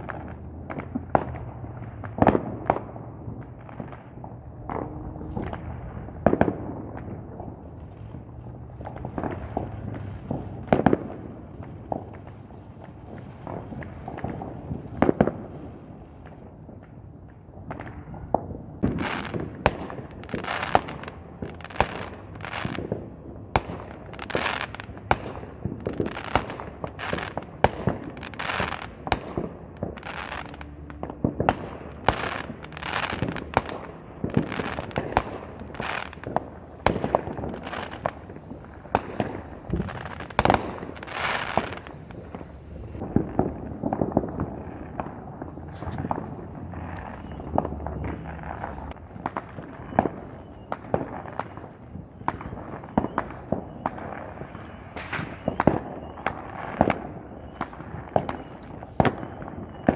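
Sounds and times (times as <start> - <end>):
fireworks banging with hiss: 0.0 - 59.9.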